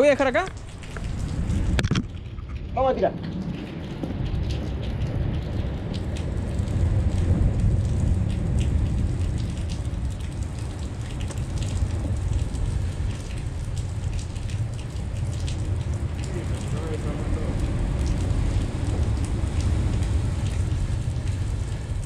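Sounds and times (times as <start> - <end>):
raindrops ticking near microphone: 0.0 - 22.0
steady rain: 0.0 - 22.0
low rumble: 0.5 - 22.0.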